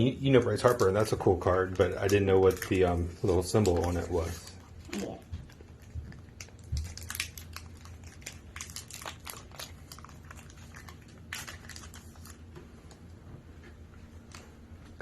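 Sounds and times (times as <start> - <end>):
foil wrapper crinkling: 0.4 - 13.1.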